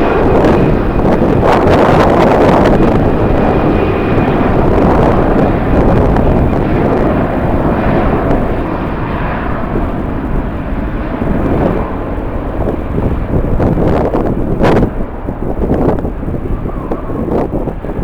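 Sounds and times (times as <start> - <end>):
jet engines roaring: 0.0 - 18.0
wind on microphone: 0.0 - 18.0.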